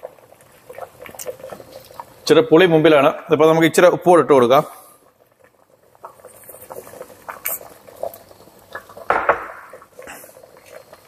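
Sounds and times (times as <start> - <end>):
thick curry bubbling: 0.0 - 11.0.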